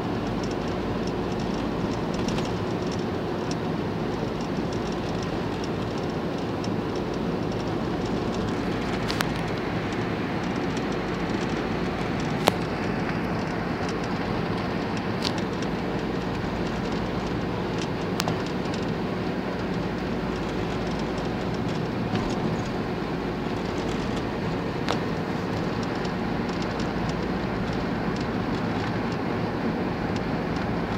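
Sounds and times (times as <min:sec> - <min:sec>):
van engine and road drone: 0:00.0 - 0:30.9.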